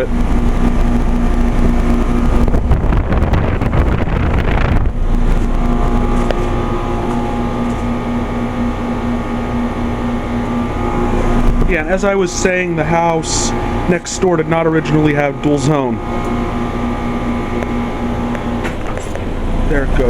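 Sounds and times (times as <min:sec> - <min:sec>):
compressor hum: 0:00.0 - 0:20.0
fan rush of air: 0:00.0 - 0:20.0.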